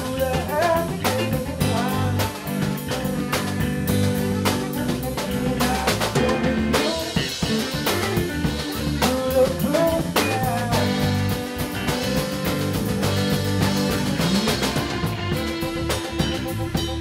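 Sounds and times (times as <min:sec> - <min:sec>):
lead guitar line bending pitch: 0:00.0 - 0:17.0
rock band playing instrumental: 0:00.0 - 0:17.0.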